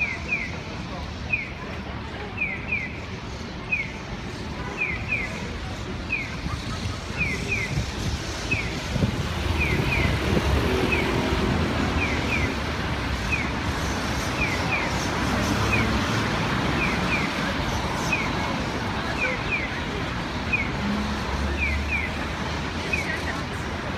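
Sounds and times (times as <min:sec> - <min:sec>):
street traffic: 0:00.0 - 0:23.9.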